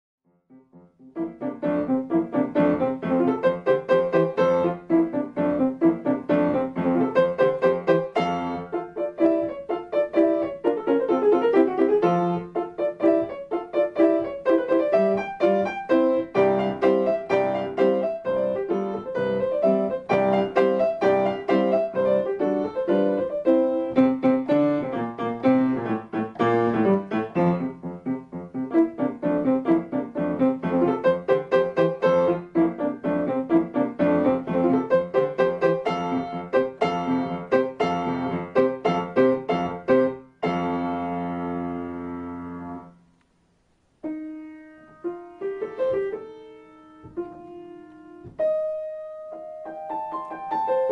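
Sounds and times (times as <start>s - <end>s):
piano music: 0.3s - 43.2s, 43.9s - 50.9s.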